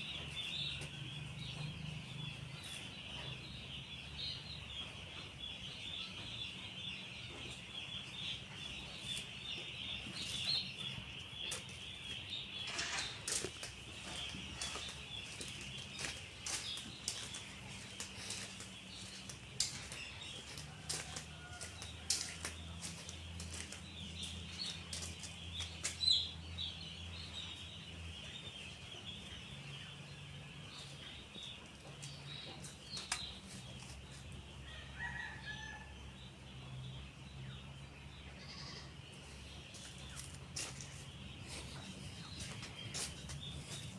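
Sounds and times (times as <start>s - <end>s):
chickens cheeping: 0.0s - 43.9s.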